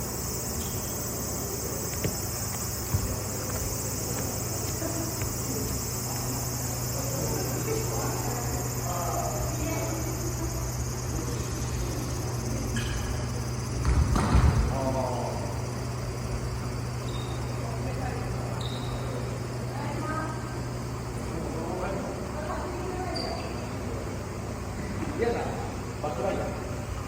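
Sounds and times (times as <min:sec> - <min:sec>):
cicadas singing: 0:00.0 - 0:27.0.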